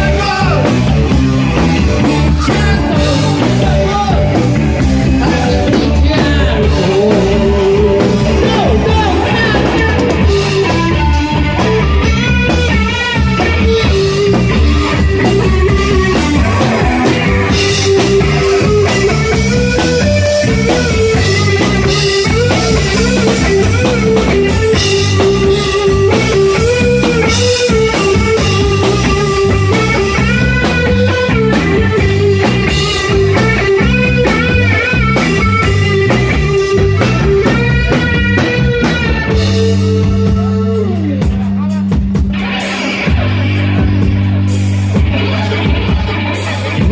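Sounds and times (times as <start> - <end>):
electric guitar bending lines: 0.0 - 41.2
bass guitar: 0.0 - 46.9
drum kit: 0.0 - 46.9.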